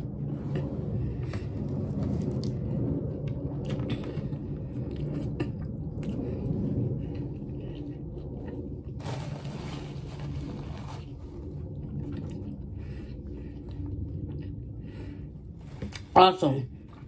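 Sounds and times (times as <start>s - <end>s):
person chewing food: 0.5s - 16.0s.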